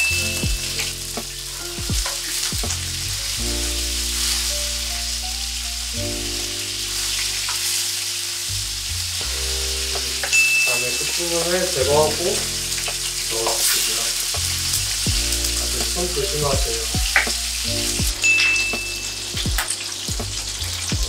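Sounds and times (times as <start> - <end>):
background music with held chords: 0.0 - 21.0
steak sizzling in a frying pan: 0.0 - 21.0.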